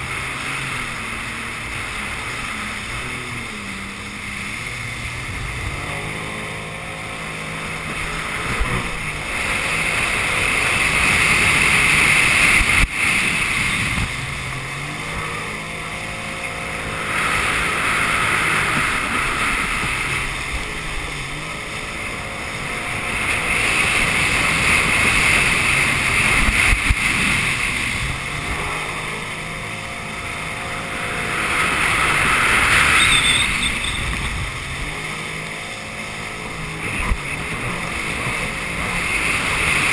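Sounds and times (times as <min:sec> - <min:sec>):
jet ski engine: 0:00.0 - 0:39.9
water and spray rushing: 0:00.0 - 0:39.9.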